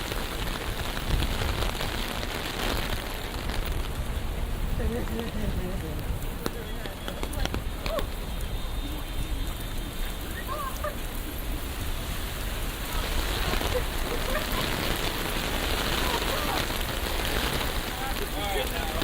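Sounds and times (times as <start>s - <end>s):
rain falling on street: 0.0s - 19.0s.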